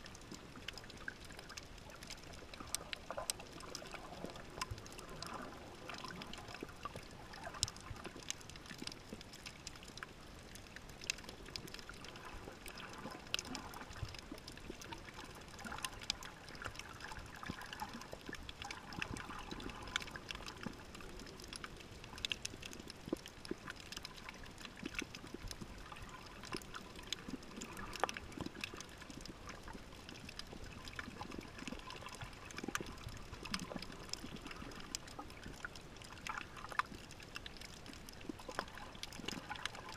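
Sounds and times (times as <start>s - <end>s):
sharp clicks and crackles: 0.0s - 39.9s
underwater gurgling swish: 0.0s - 39.9s.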